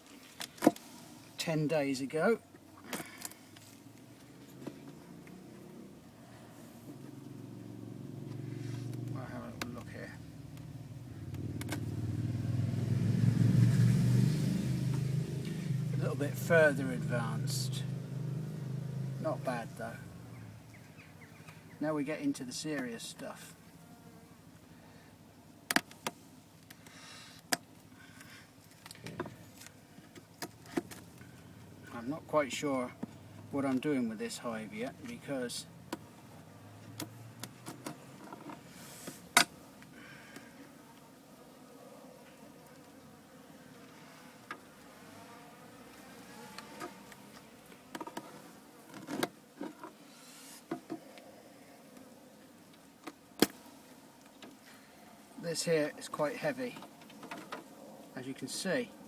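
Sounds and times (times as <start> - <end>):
bees buzzing: 4.5 - 25.1, 31.0 - 59.0.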